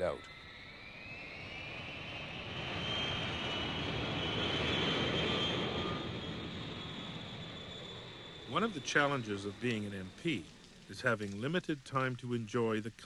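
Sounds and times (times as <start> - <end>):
jet airliner flying past: 0.0 - 12.1.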